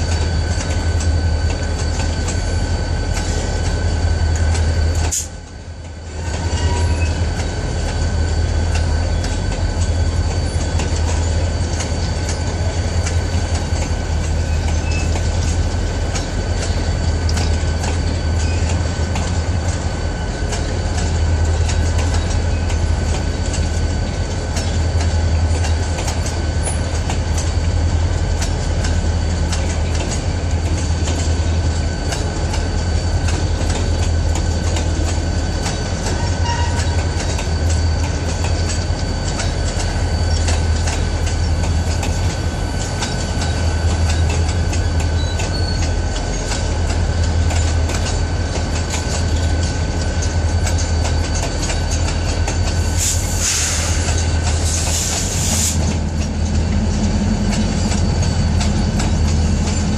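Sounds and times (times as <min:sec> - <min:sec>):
train wheels rumbling on rail: 0:00.0 - 0:59.9
wheels clicking over rail joints: 0:00.0 - 0:59.9.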